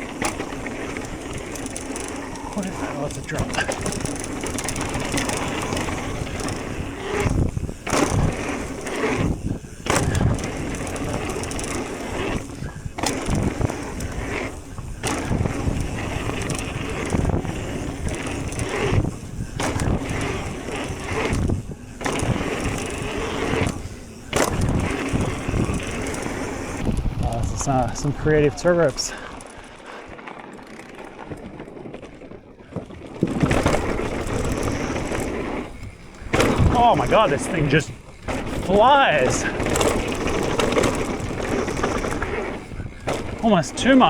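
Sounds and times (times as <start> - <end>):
bike knocks and rattles: 0.0 - 44.0
tyre and wind rush: 0.0 - 44.0.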